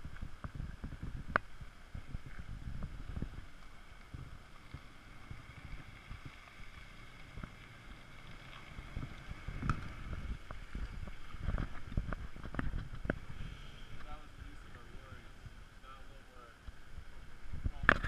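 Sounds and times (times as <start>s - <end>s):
wind buffeting microphone: 0.0s - 7.8s, 8.6s - 15.8s, 16.7s - 18.0s.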